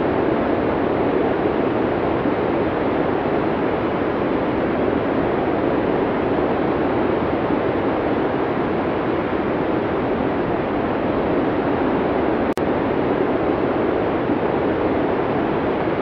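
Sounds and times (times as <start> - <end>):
blizzard wind: 0.0 - 16.0.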